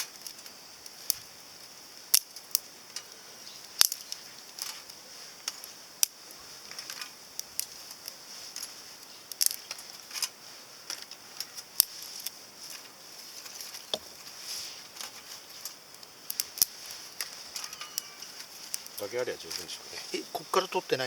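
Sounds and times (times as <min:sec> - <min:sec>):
fire crackling and popping: 0:00.0 - 0:21.0
steady fire hiss: 0:00.0 - 0:21.0.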